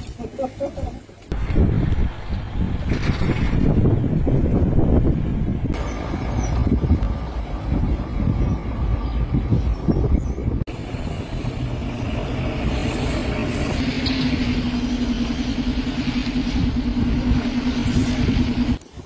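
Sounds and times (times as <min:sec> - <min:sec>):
buses driving past: 0:00.9 - 0:19.0.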